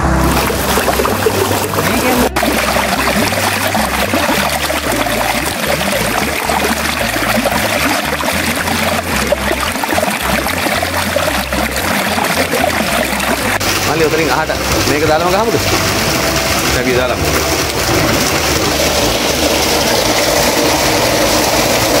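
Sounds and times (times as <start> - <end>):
water trickling in stone channel: 0.2 - 22.0.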